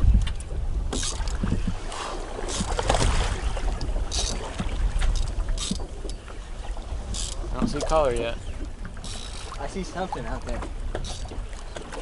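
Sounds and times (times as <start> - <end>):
wind rumbling on microphone: 0.0 - 12.0
water splashing: 0.7 - 12.0.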